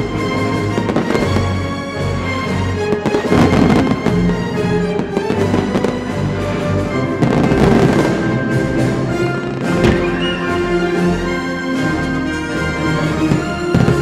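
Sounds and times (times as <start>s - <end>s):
fireworks bangs and crackles: 0.0s - 14.0s
music playing: 0.0s - 14.0s.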